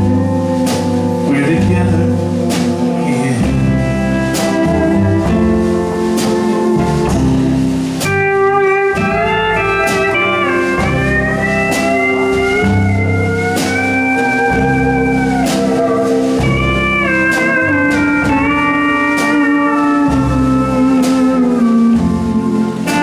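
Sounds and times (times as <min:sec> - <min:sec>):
country band playing ballad: 0:00.0 - 0:23.0
pedal steel guitar sliding: 0:00.0 - 0:23.0.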